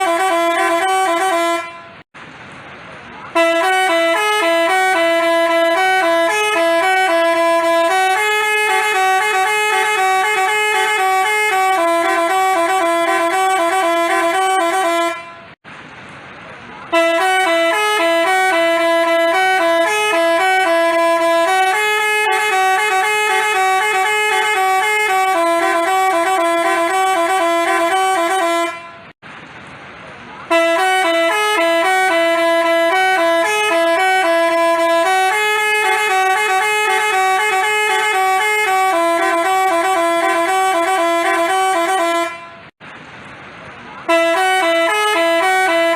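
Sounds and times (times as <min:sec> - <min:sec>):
multi-tone bus horn tune: 0:00.0 - 0:02.1, 0:03.3 - 0:15.6, 0:16.9 - 0:29.2, 0:30.4 - 0:42.8, 0:44.0 - 0:45.9.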